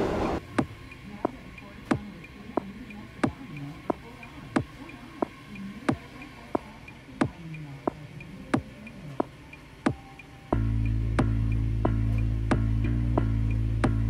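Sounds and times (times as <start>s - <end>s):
faint low hum: 0.0s - 14.0s
steady ticking clicks: 0.4s - 14.0s.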